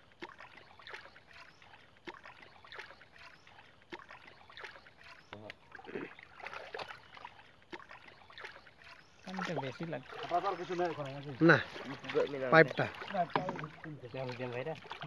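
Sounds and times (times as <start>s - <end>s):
feet wading in muddy water: 0.0s - 15.0s.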